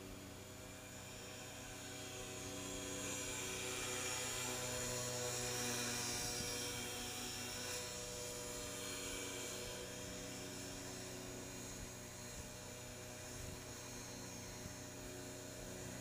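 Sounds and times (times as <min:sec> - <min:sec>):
rc helicopter motor and rotor whine: 0:00.0 - 0:16.0.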